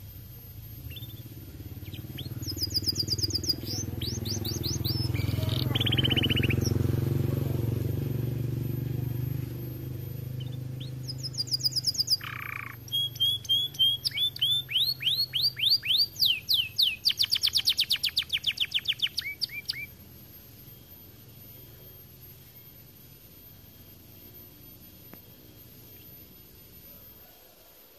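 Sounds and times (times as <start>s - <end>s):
low hum: 0.0s - 27.3s
canary singing trills: 0.0s - 27.8s.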